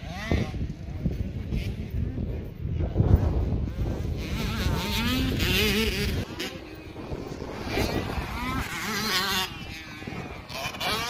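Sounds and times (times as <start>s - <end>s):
dirt bike engine revving: 0.0s - 2.1s, 3.0s - 11.0s.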